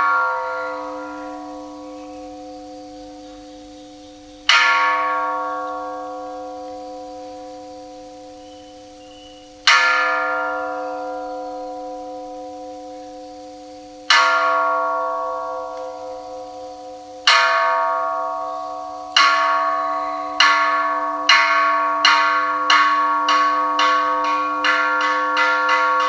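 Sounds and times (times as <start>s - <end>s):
temple bell ringing: 0.0s - 26.0s.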